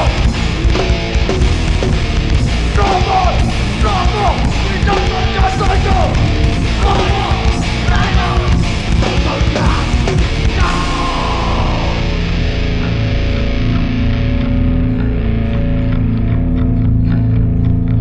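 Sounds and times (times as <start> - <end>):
punk band playing live: 0.0 - 17.9
distorted electric guitars: 0.0 - 18.0.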